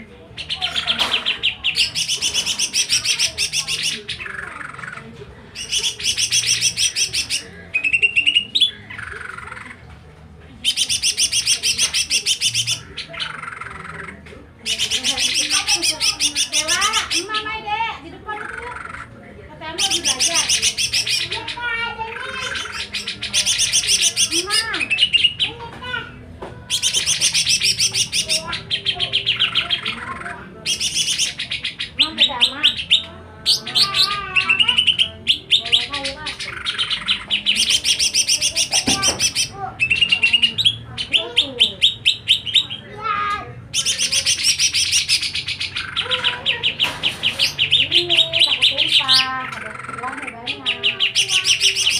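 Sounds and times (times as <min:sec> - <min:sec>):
songbird chirping: 0:00.0 - 0:51.9
high bird trill: 0:00.3 - 0:09.8, 0:10.6 - 0:26.1, 0:26.7 - 0:51.9.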